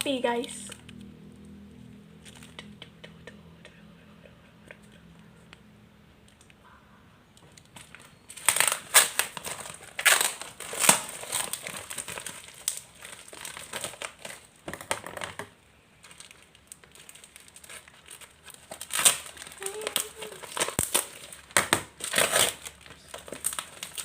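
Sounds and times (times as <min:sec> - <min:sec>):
packaging crinkling and rustling: 0:00.0 - 0:02.6, 0:07.4 - 0:24.0.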